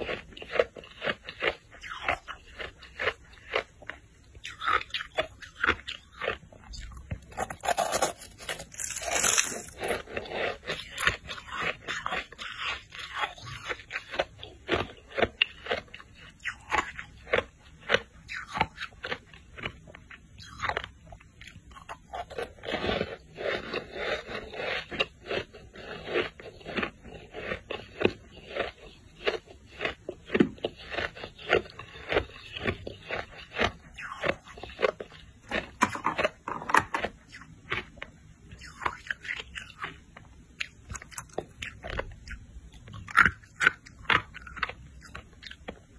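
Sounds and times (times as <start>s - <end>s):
ice crunching while chewed: 0.0s - 45.9s.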